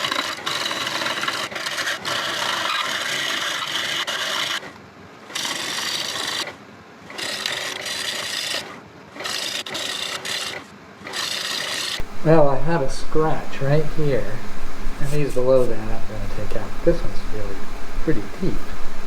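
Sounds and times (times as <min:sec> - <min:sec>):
lathe tool scraping wood: 0:00.0 - 0:19.0.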